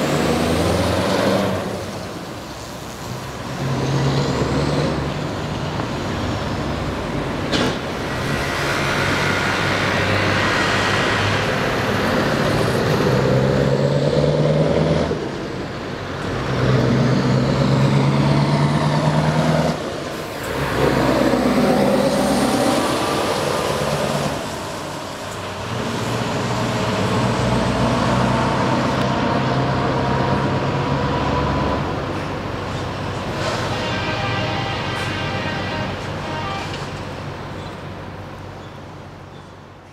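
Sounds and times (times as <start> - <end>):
lorry passing close by: 0.0 - 32.2
lorry diesel engines accelerating: 0.0 - 39.9.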